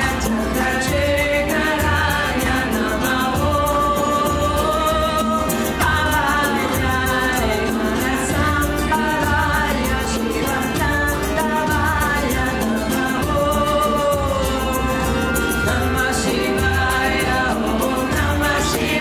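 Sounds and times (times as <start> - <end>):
strummed acoustic guitar: 0.0 - 19.0
woman singing: 0.0 - 19.0.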